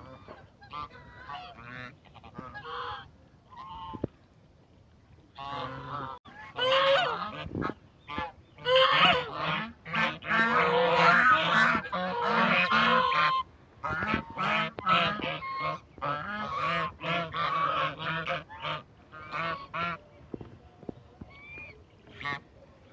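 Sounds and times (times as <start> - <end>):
geese honking: 0.0 - 4.1, 5.4 - 20.1, 21.2 - 22.9.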